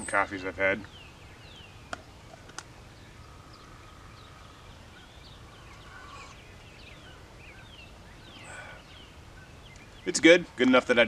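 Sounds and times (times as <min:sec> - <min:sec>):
long full bird call: 0:00.0 - 0:10.3
bird holding steady note: 0:00.0 - 0:10.6
birds chirping: 0:00.0 - 0:11.0.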